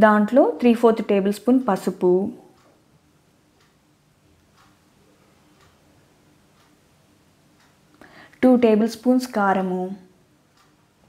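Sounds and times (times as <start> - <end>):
clock ticking faintly: 0.2 - 11.0.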